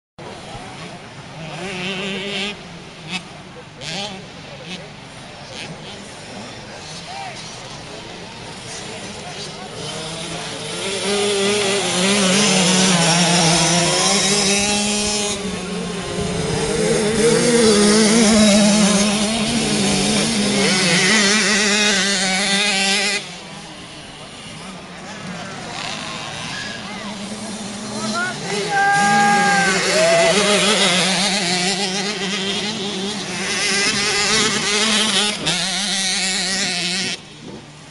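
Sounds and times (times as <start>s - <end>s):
mini motocross engines revving: 0.2s - 37.9s.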